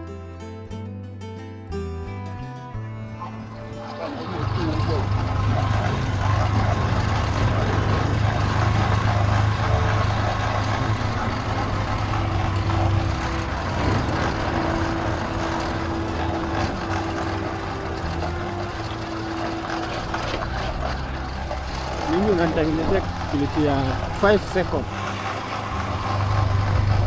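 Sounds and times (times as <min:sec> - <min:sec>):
vehicle engine running: 0:02.9 - 0:27.0.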